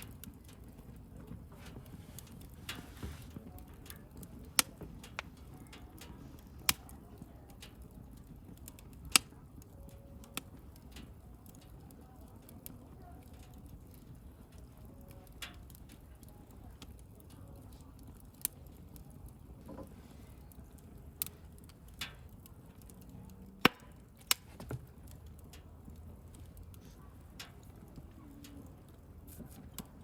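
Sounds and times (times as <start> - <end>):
campfire pops and snaps: 0.0 - 30.0
fire burning noise: 0.0 - 30.0.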